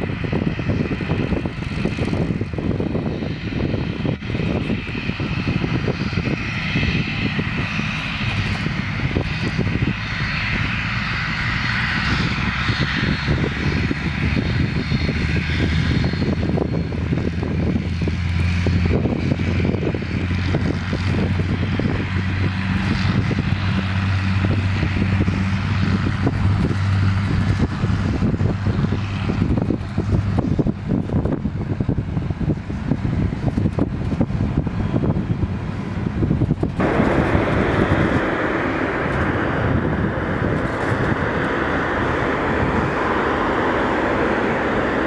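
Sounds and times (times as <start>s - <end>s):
light aircraft engine and propeller: 0.0s - 45.0s.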